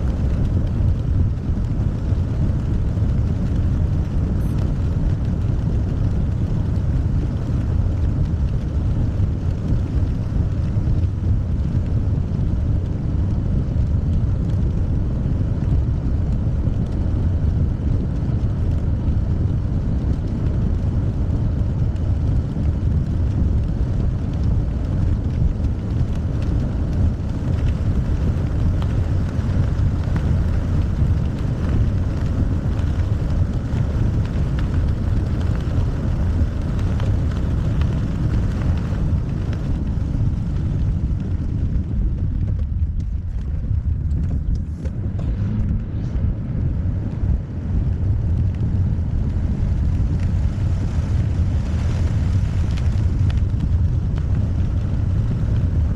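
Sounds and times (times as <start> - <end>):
gusty storm wind buffeting microphone: 0.0 - 55.9.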